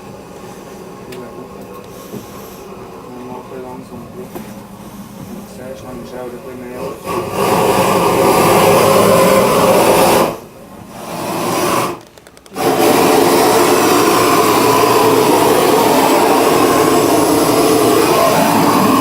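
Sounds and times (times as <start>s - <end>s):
roaring chimney fire: 0.0s - 19.0s.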